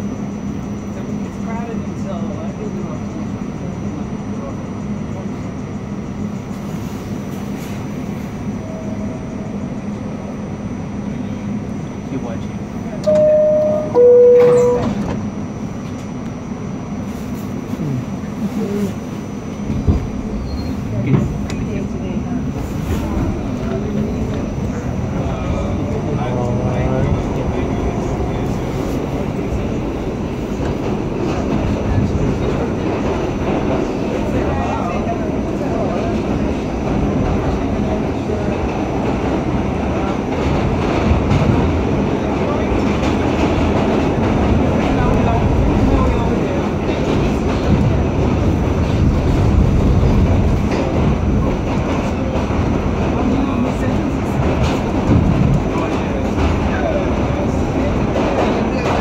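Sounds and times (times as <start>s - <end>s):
subway car rumble and hiss: 0.0s - 59.0s.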